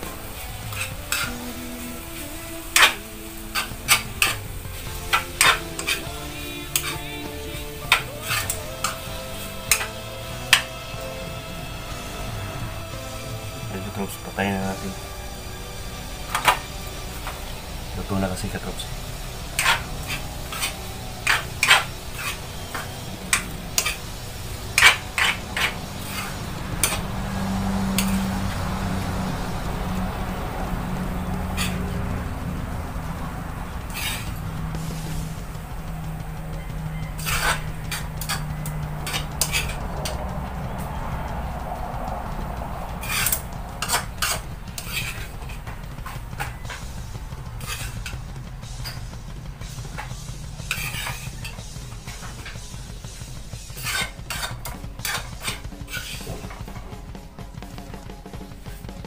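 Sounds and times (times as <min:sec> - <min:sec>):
metal spatula scraping a wok: 0:00.0 - 0:41.0, 0:42.9 - 0:56.9
low hum: 0:00.0 - 0:59.0
steady sizzle: 0:00.0 - 0:59.0.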